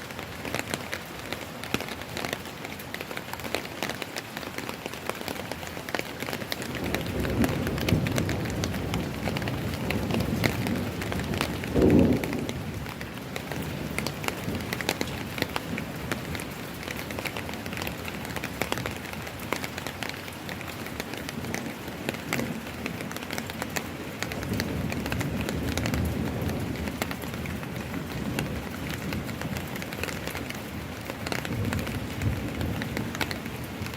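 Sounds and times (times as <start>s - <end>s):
rain on hard surfaces: 0.0s - 33.9s.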